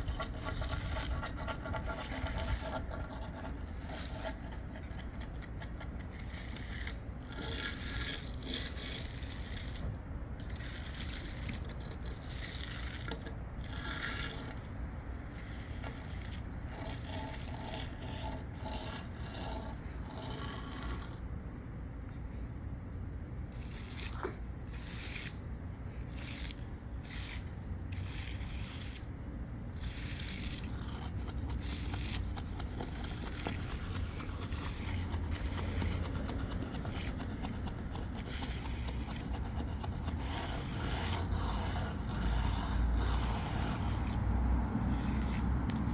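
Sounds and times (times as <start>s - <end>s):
tool scraping concrete: 0.0s - 21.4s, 23.5s - 45.9s.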